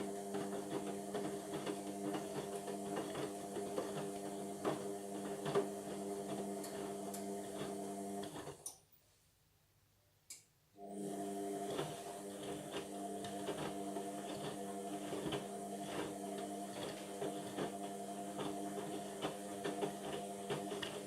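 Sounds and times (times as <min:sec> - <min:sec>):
washing machine drum motor hum: 0:00.0 - 0:08.4, 0:10.8 - 0:21.0.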